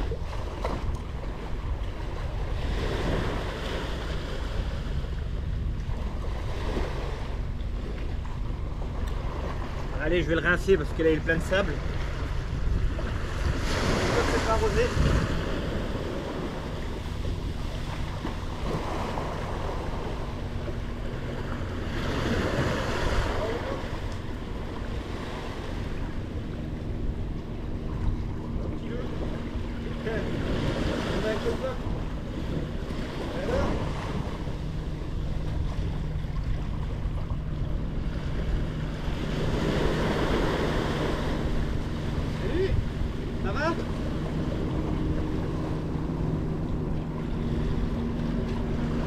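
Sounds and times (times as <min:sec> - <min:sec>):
small waves breaking on sand: 0:00.0 - 0:49.0
wind buffeting microphone: 0:00.0 - 0:49.0.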